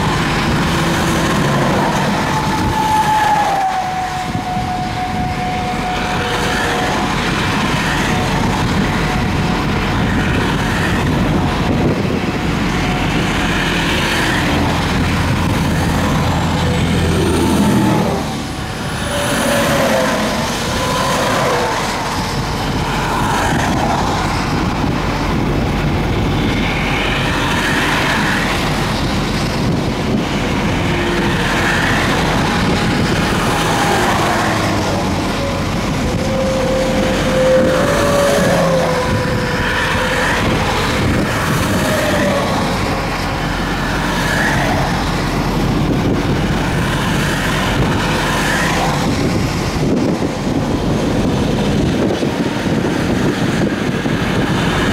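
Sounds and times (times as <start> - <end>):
trucks and cars passing: 0.0 - 54.9.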